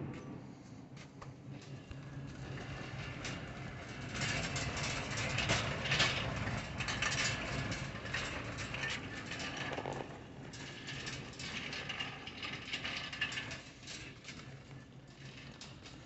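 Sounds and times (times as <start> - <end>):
shopping cart rattling: 2.4 - 16.0.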